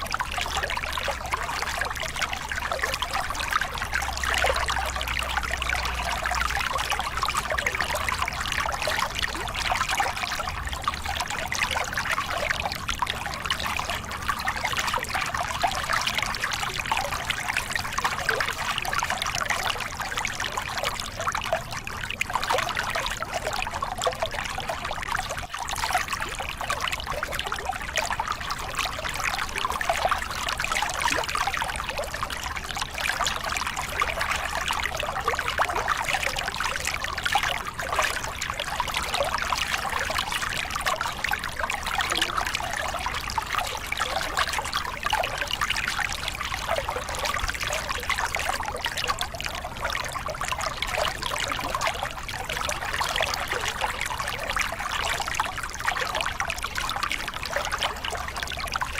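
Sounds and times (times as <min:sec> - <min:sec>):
water splashing over rocks: 0:00.0 - 0:58.9.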